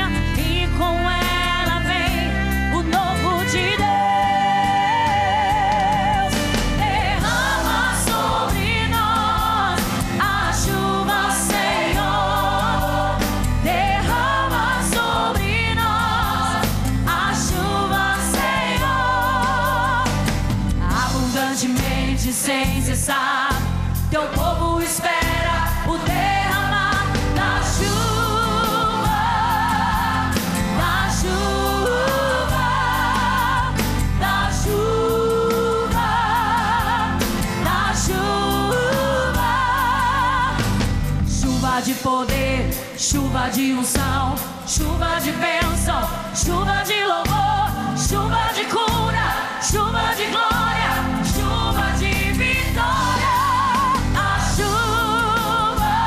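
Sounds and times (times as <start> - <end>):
instrumental backing: 0.0 - 56.0
woman singing gospel song: 0.0 - 56.0.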